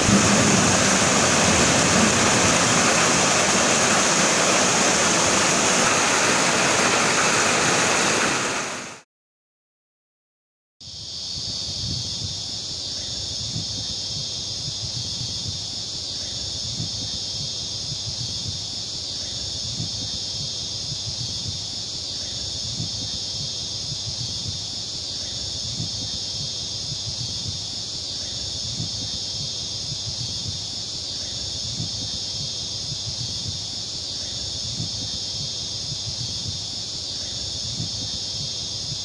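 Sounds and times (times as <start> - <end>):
insect chorus shrill drone: 0.0 - 9.0, 10.8 - 39.0.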